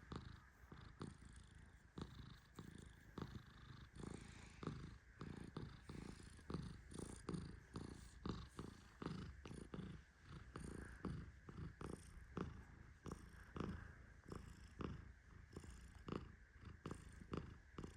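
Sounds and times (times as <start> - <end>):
cat purring: 0.0 - 17.9.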